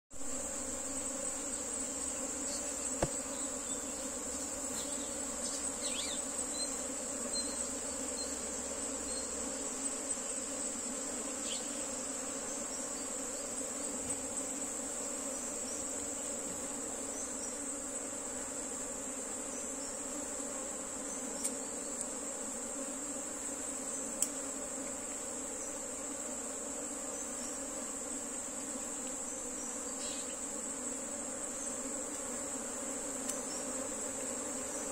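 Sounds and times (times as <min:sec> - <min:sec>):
high-pitched insect whine: 0:00.1 - 0:34.9
honey bees humming: 0:00.2 - 0:34.9.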